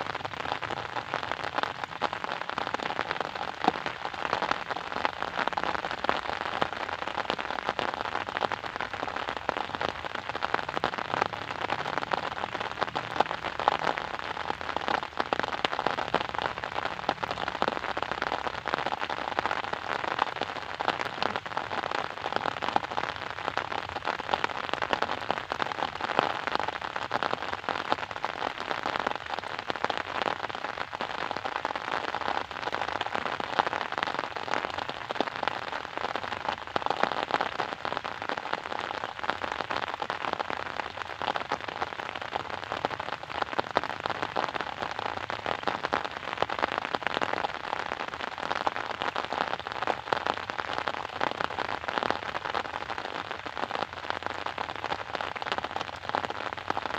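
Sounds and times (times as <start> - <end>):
rain pattering on a surface: 0.0 - 56.9.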